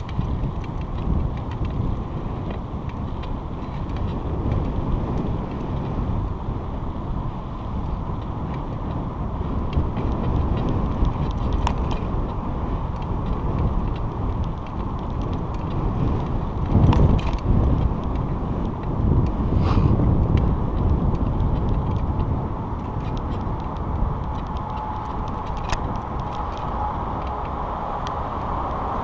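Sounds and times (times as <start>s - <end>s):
bicycle tyre and bike noise: 0.0s - 29.0s
wind buffeting microphone: 0.0s - 29.0s.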